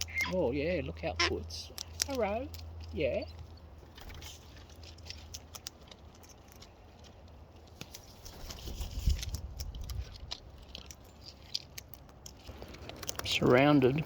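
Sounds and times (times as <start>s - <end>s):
beaks and claws tapping: 1.1s - 14.0s.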